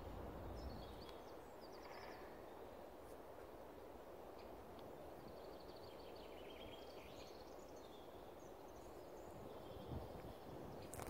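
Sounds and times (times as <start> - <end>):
steady low hiss: 0.0 - 11.0
small birds chirping: 0.5 - 2.8, 4.4 - 11.0.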